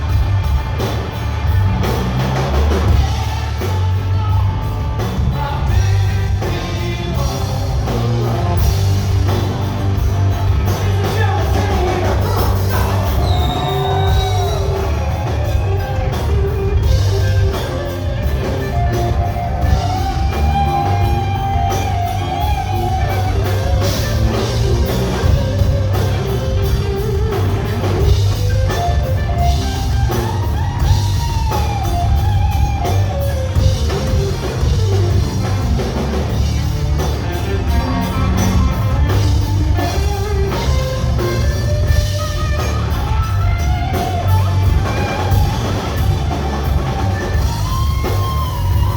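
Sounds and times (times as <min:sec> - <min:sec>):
electric guitar lead lines: 0:00.0 - 0:48.9
live rock band playing: 0:00.0 - 0:48.9.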